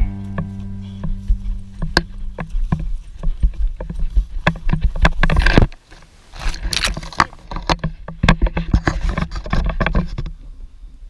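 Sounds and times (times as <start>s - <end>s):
footfalls on dirt trail: 0.0s - 9.8s
camera rattling: 1.0s - 10.3s.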